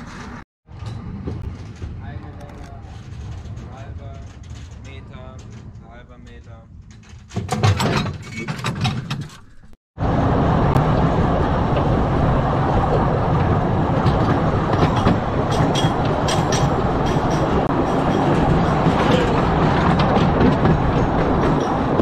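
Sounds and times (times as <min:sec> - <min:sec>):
clacks over rail joints: 0:00.0 - 0:09.8, 0:12.8 - 0:22.0
wheels rumbling on rails: 0:00.0 - 0:22.0.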